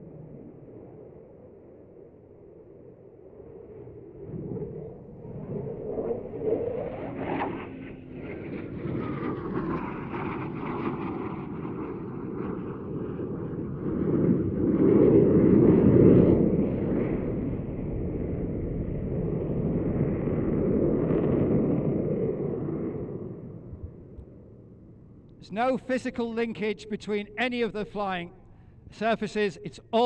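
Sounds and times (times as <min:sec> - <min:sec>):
jet engines in afterburner overhead: 0:00.0 - 0:30.0.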